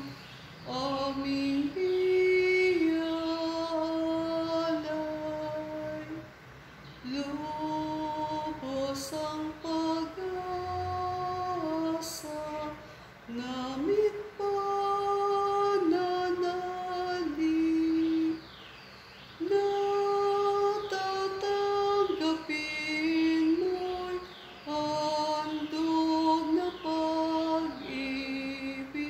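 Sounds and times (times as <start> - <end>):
woman singing a hymn: 0.0 - 29.0.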